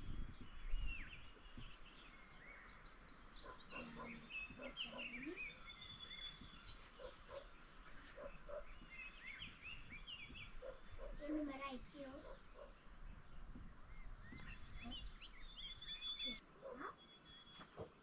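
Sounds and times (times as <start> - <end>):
lower bird calls: 0.0 - 11.3, 12.2 - 18.0
small birds chirping: 0.0 - 18.0.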